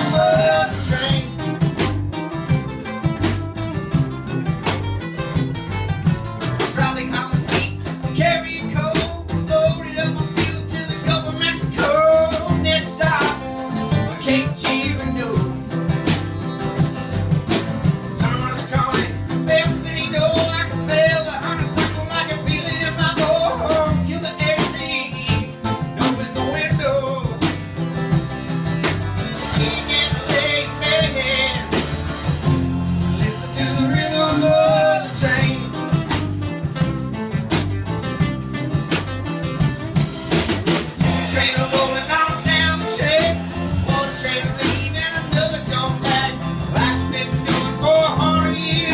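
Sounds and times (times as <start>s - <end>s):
acoustic guitars strumming: 0.0s - 48.9s
drum kit beat: 0.0s - 48.9s
electric bass: 0.0s - 48.9s
lead guitar melody bending: 9.2s - 48.9s.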